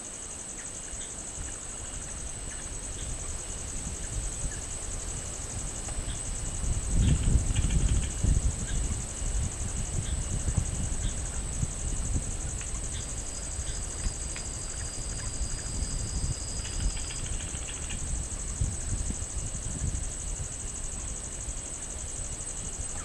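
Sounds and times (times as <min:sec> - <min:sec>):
insect chirps: 0:00.0 - 0:23.0
insect pulsing trill: 0:00.0 - 0:23.0
insect thin steady tone: 0:00.0 - 0:23.0.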